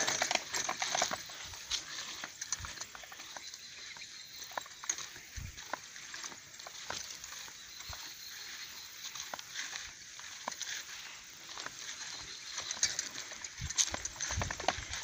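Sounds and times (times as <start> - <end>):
grass rustling underfoot: 0.0 - 15.0.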